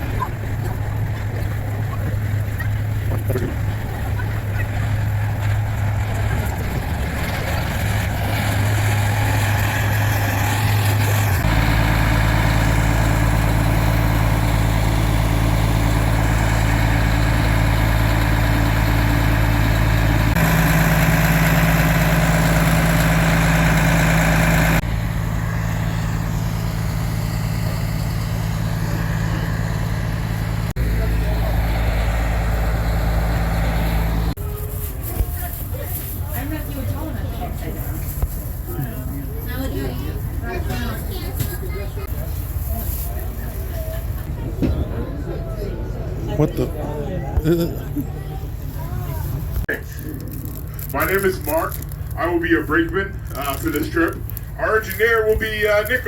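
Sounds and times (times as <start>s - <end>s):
diesel locomotive engine humming: 0.0s - 56.0s.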